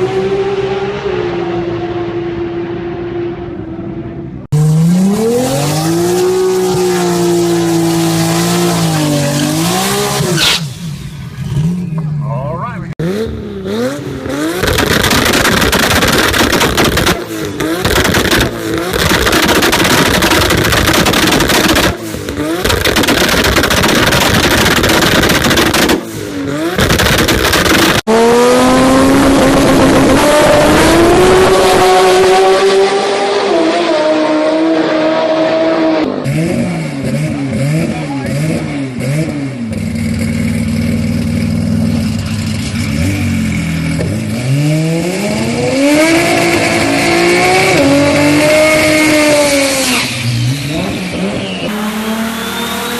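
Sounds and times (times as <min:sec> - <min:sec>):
car engines revving hard: 0:00.0 - 0:52.9.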